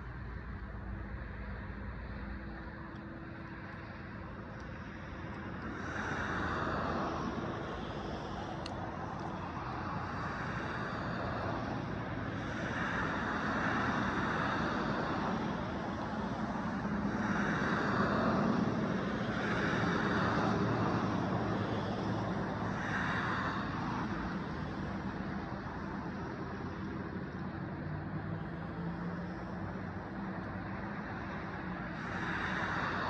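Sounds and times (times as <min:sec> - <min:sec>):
cars driving past: 0:00.0 - 0:33.0.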